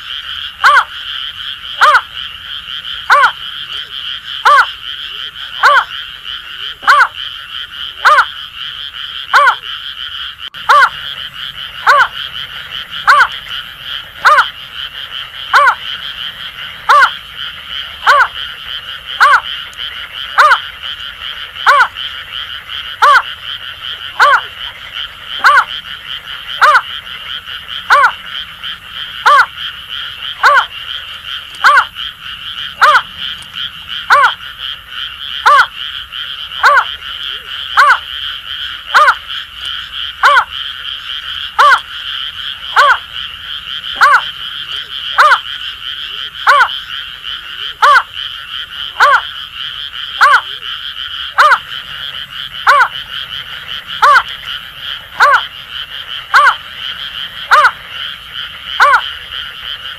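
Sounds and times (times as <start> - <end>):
frog chorus croaking: 0.0 - 59.9.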